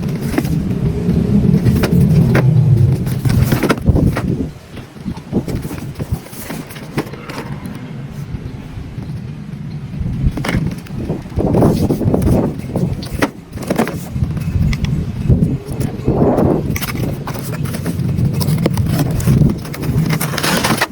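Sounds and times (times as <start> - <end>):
knocks and scrapes: 0.0 - 9.4, 10.1 - 20.9.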